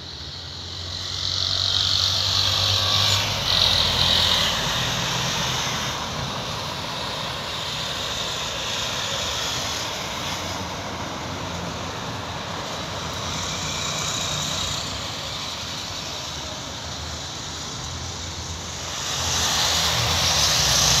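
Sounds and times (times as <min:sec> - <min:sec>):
outdoor rushing noise: 0:00.0 - 0:21.0.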